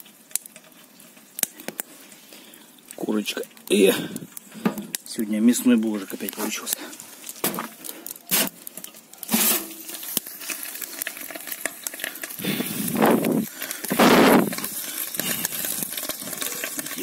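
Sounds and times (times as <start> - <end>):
chicken crackling and sizzling: 0.0 - 17.0.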